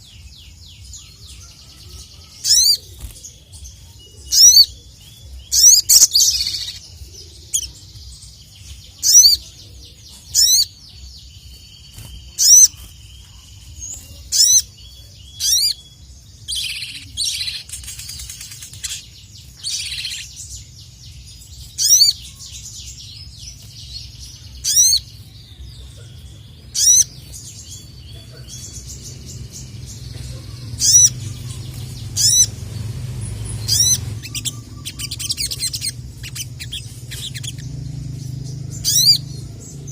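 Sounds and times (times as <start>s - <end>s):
sunbird sharp chirps: 0.0s - 39.9s.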